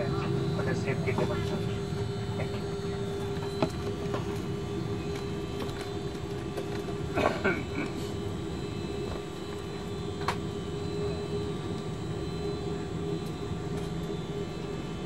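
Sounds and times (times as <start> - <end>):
aircraft cabin engine rumble: 0.0 - 15.0
steady hum: 0.0 - 15.0.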